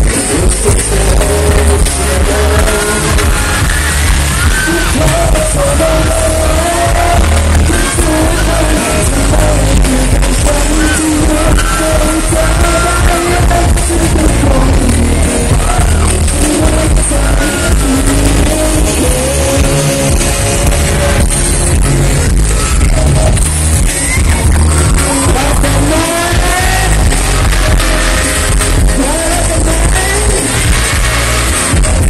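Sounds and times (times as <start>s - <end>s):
amplified backing music: 0.0s - 32.0s
man singing into microphone: 0.0s - 32.0s.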